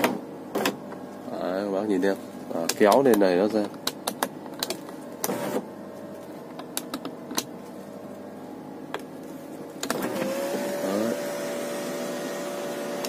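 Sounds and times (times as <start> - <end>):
sunroof motor whine and hum: 0.0 - 13.0.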